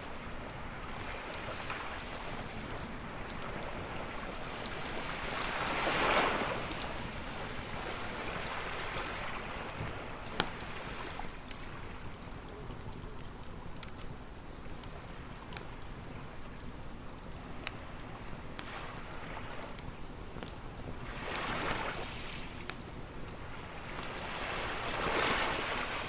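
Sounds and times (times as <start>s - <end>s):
ocean waves breaking on beach: 0.0s - 13.0s, 17.7s - 26.0s
campfire crackling and popping: 0.0s - 26.0s.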